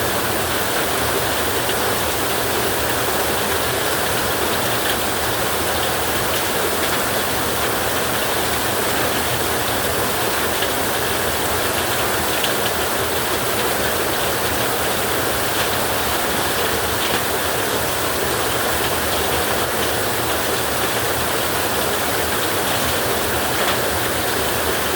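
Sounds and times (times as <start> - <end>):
heavy rain on a metal roof: 0.0 - 24.9.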